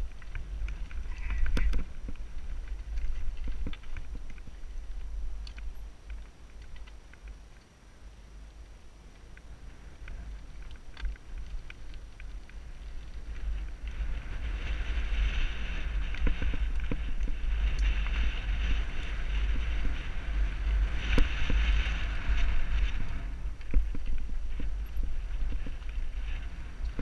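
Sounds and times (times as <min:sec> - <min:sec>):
wind buffeting microphone: 0:00.0 - 0:07.5, 0:09.0 - 0:27.0
bike tyres on gravel trail: 0:00.0 - 0:27.0.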